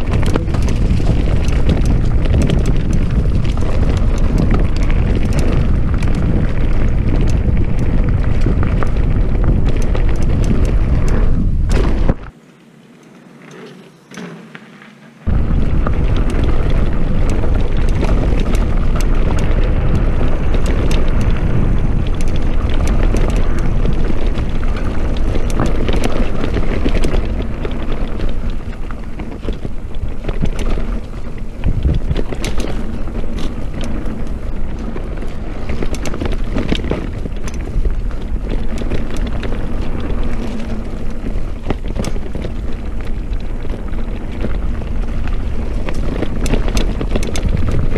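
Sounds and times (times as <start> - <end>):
bike rattling and knocking: 0.0 - 12.4, 13.5 - 47.9
wind buffeting microphone: 0.0 - 12.4, 15.2 - 47.9
tyres rumbling on dirt trail: 0.0 - 47.9.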